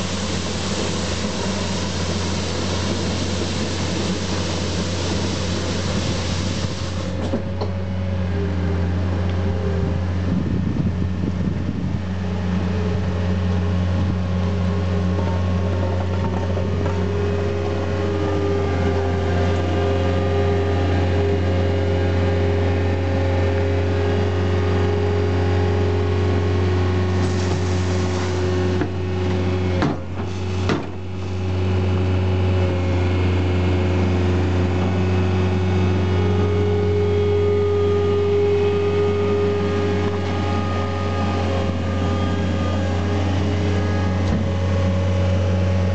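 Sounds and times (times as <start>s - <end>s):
loader engine running: 0.0s - 45.9s.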